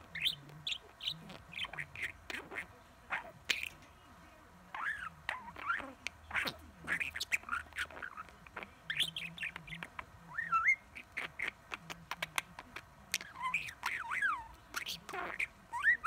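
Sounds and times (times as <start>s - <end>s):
budgerigar chattering: 0.0s - 3.8s, 4.7s - 16.0s.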